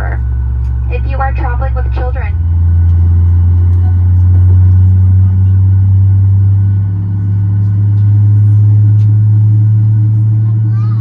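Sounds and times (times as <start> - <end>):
jet engine idling from cabin: 0.0 - 11.0.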